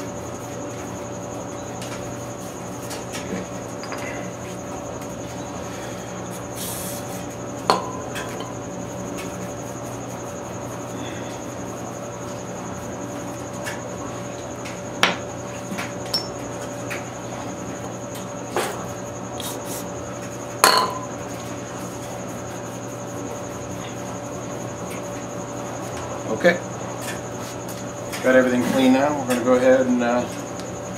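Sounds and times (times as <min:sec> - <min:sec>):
steady background hum: 0:00.0 - 0:30.9.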